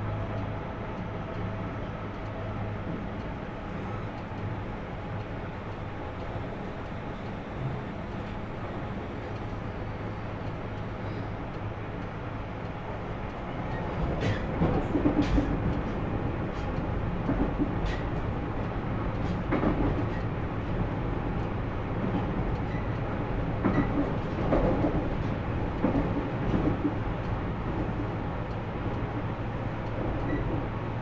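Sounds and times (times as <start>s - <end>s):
train rumble and hum: 0.0s - 31.0s.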